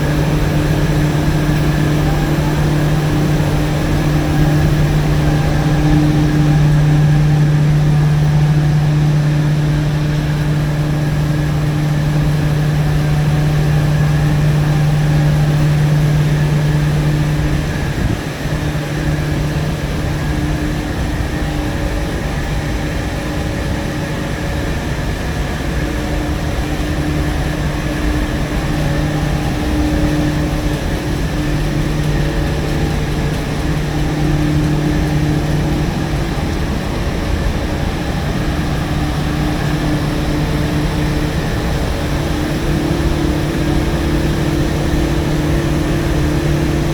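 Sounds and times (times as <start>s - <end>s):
boiler plant machinery humming: 0.0s - 46.9s.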